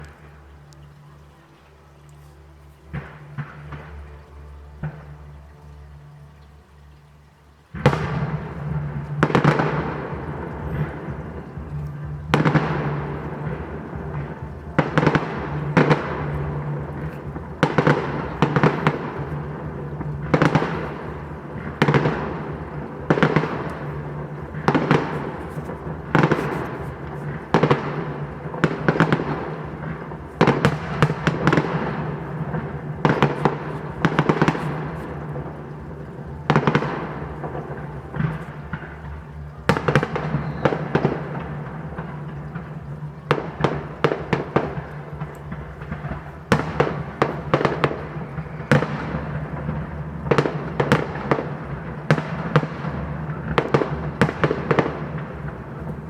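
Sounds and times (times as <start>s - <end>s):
fireworks bangs with echo: 7.7s - 56.0s.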